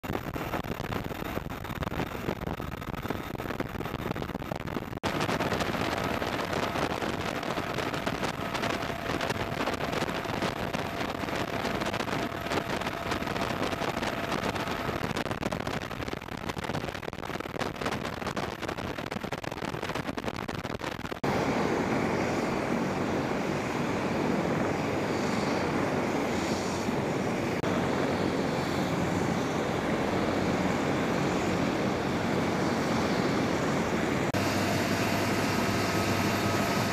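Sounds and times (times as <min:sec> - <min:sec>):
turbine engines and rotors whining: 0:00.0 - 0:16.1, 0:21.2 - 0:36.9.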